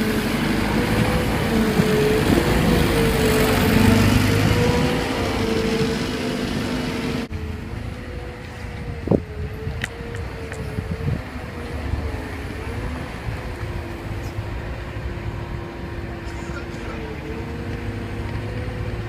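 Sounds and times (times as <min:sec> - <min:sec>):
excavator engine rumble and whine: 0:00.0 - 0:19.0.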